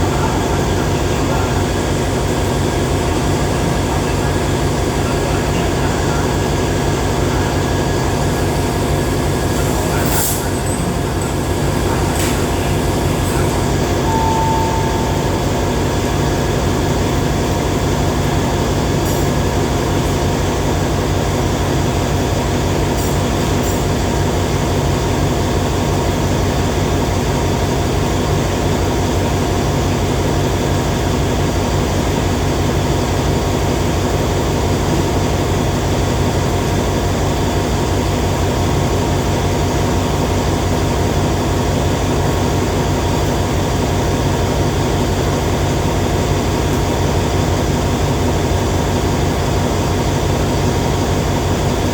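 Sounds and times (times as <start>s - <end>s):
locomotive diesel engine running: 0.0s - 51.9s.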